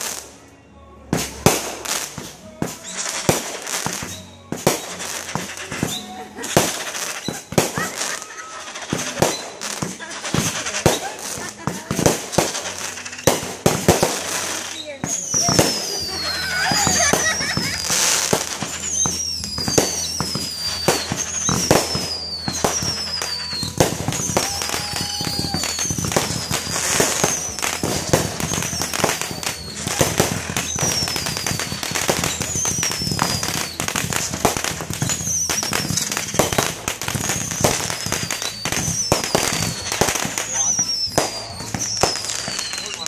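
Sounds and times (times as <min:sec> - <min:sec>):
fireworks bangs and crackling: 0:00.0 - 0:43.0
falling firework whistle: 0:01.4 - 0:43.0.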